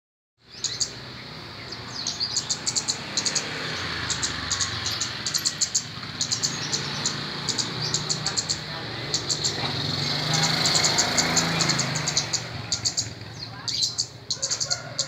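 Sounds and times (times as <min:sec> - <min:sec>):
bird chirping: 0:00.4 - 0:15.0.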